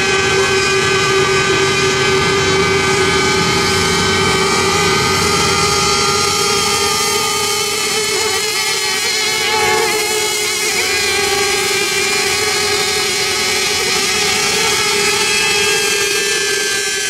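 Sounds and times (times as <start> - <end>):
racing boat motors whining: 0.0 - 17.0.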